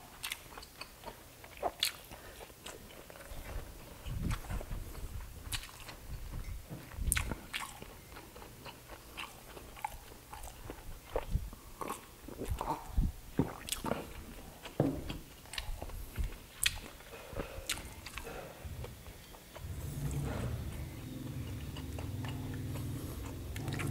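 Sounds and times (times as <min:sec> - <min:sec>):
person chewing and lip-smacking: 0:00.1 - 0:23.9.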